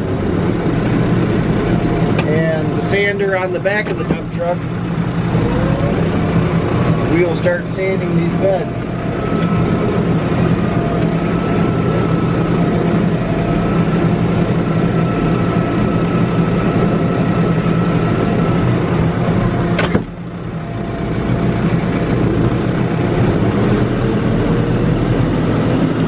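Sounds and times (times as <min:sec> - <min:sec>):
faint steady whine: 0:00.0 - 0:26.0
tractor engine running under load: 0:00.0 - 0:26.0.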